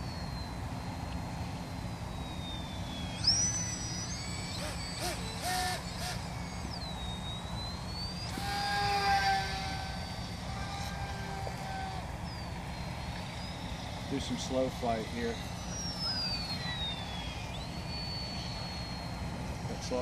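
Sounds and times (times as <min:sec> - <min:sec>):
distant traffic: 0:00.0 - 0:20.0
lower drone: 0:00.0 - 0:20.0
wind rumble: 0:00.0 - 0:20.0
model plane motor whining: 0:02.2 - 0:19.4.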